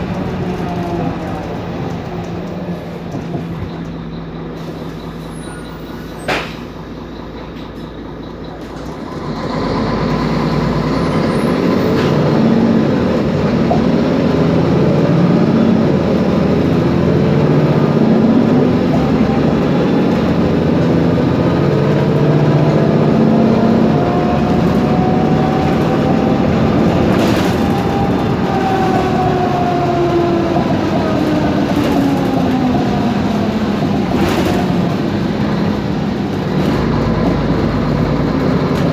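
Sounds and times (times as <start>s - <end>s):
bus engine running with rattling: 0.0s - 38.9s.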